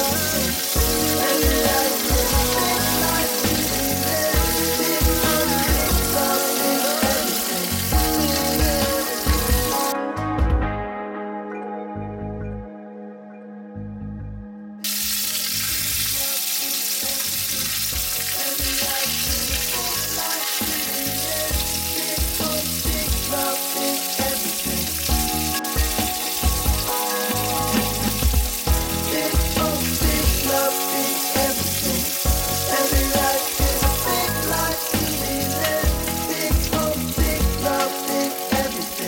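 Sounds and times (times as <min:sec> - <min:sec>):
food sizzling in hot oil: 0:00.0 - 0:10.0, 0:14.8 - 0:39.0
background music: 0:00.0 - 0:39.0.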